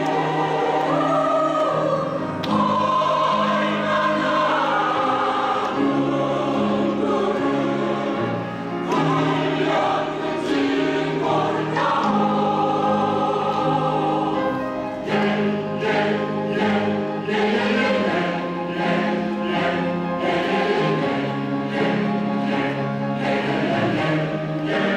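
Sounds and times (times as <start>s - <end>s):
piano accompaniment: 0.0s - 24.9s
women's choir singing: 0.0s - 24.9s.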